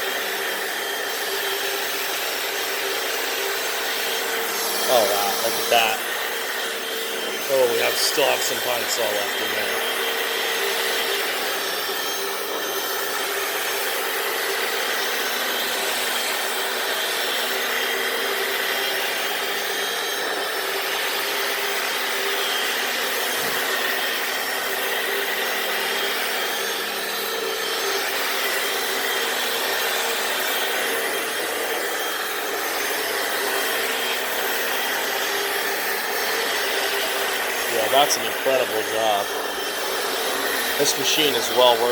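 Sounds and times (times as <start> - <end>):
floor cleaner motor humming: 0.0 - 41.9.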